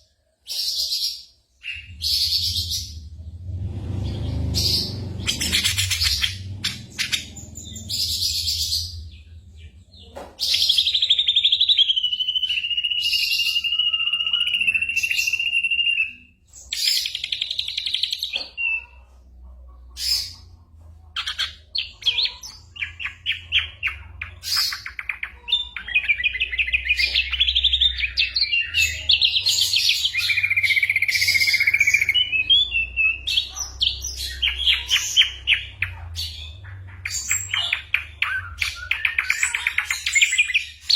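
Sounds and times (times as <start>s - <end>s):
bird singing varied song: 0.0s - 19.2s, 19.8s - 40.9s.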